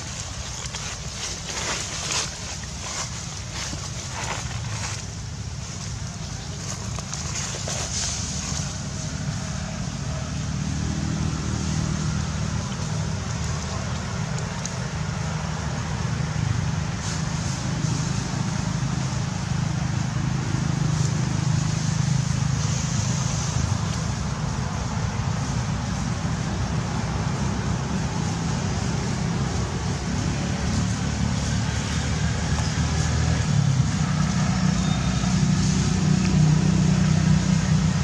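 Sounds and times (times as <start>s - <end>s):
outdoor background noise: 0.0s - 38.0s
vehicle engine humming: 0.0s - 38.0s.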